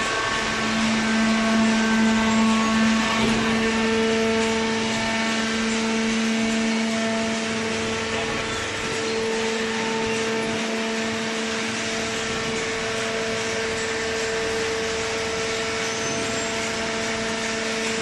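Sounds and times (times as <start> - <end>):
baler motor droning: 0.0 - 18.0.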